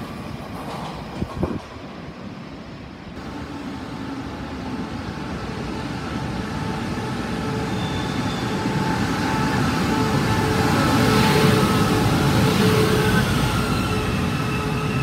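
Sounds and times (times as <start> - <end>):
train rumbling through station: 0.0 - 15.0.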